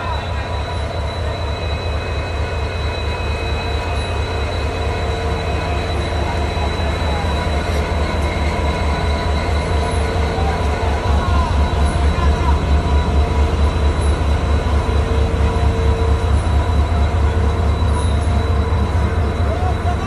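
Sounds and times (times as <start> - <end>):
diesel locomotive engine running: 0.0 - 20.0.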